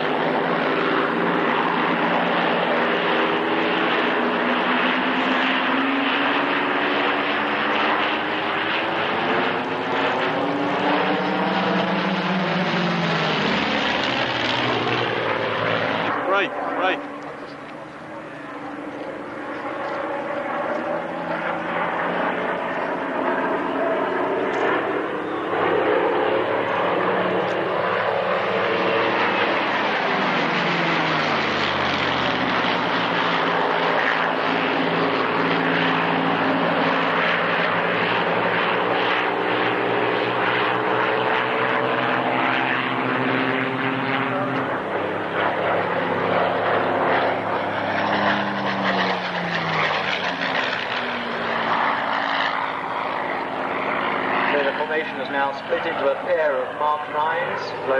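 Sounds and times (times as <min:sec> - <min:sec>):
propeller aircraft flying past: 0:00.0 - 0:57.9.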